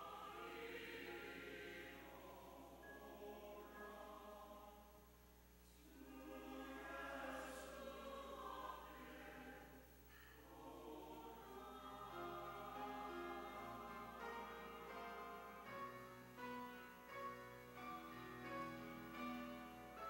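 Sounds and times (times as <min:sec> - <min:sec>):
choir singing a hymn: 0:00.0 - 0:05.0, 0:05.7 - 0:20.0.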